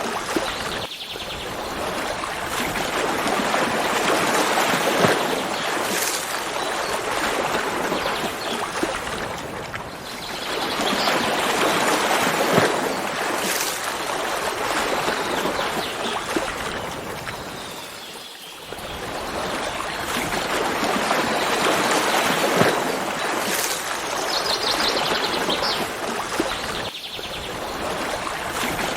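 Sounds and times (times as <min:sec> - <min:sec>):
stream water rushing and trickling: 0:00.0 - 0:28.9.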